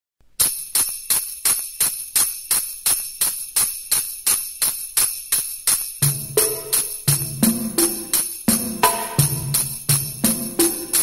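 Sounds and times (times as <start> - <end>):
jingling sleigh bells: 0.4 - 11.0.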